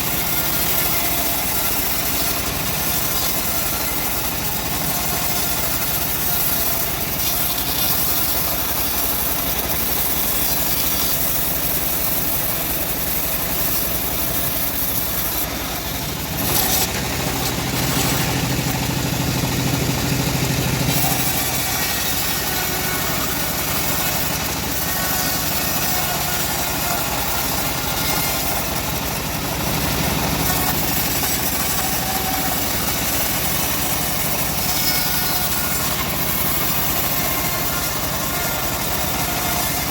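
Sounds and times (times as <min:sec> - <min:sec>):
bandsaw mill drone: 0:00.0 - 0:39.9.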